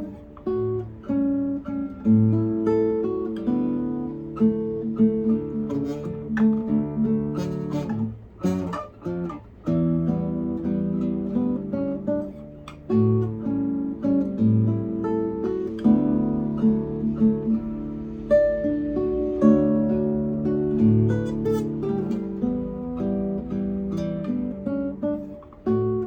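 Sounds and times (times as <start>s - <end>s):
fingerpicked acoustic guitar: 0.0s - 26.0s.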